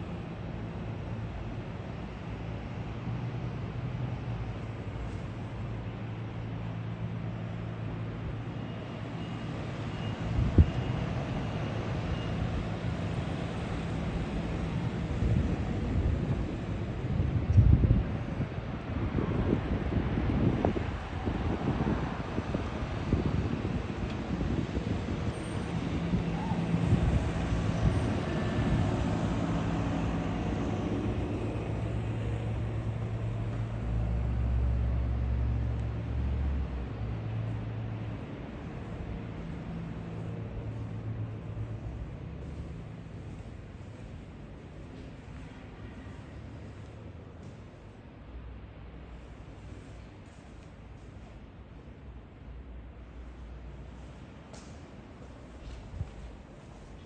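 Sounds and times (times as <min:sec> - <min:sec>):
road traffic hum: 0:00.0 - 0:57.0.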